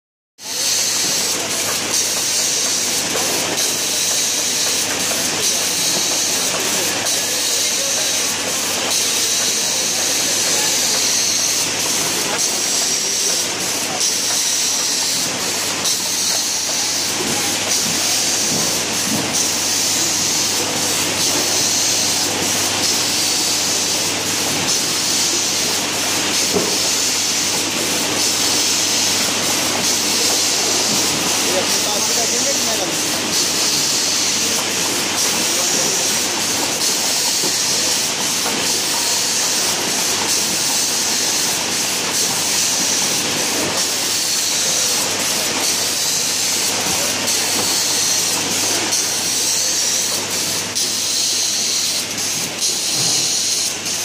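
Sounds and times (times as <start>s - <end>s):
machine hissing: 0.5s - 54.0s.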